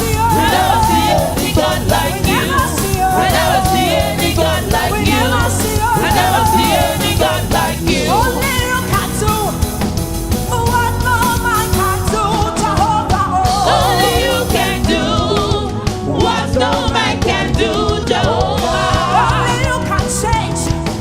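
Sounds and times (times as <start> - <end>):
gospel singing with full band: 0.0 - 21.0.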